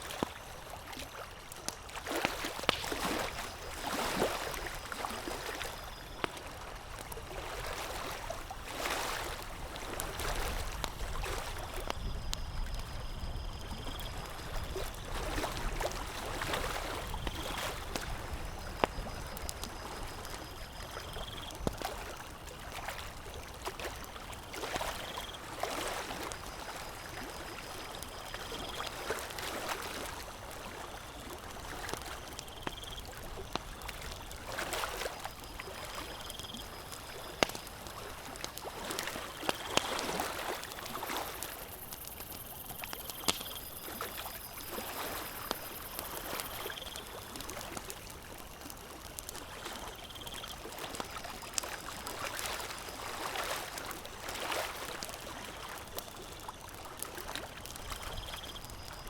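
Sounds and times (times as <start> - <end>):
water lapping: 0.0 - 11.9, 14.2 - 59.0
campfire crackling and popping: 0.1 - 59.0.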